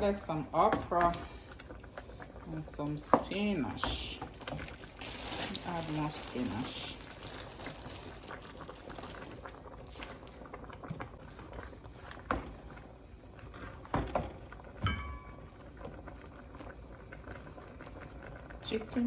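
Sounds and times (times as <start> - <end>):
soup simmering with bubbles popping: 0.0 - 19.0.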